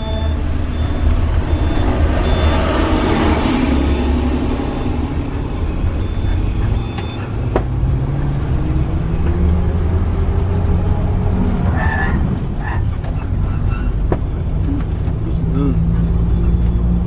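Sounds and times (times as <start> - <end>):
motorhome engine running under load: 0.0 - 17.0
road noise: 0.0 - 17.0.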